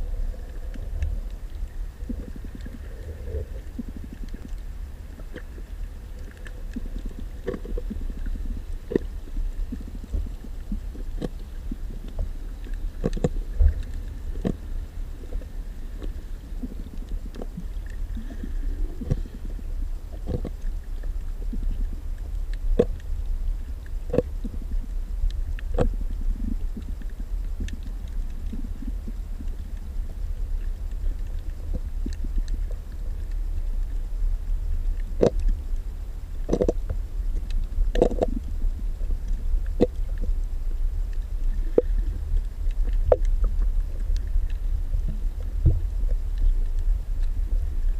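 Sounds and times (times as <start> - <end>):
fish scraping coral clicks: 0.0 - 47.9
low underwater rumble: 0.0 - 47.9.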